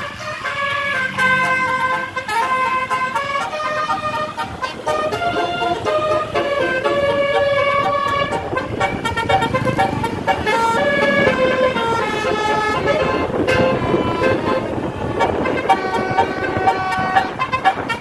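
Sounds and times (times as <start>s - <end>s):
multi-tone bus horn tune: 0.0s - 18.0s
steady background noise: 0.0s - 18.0s.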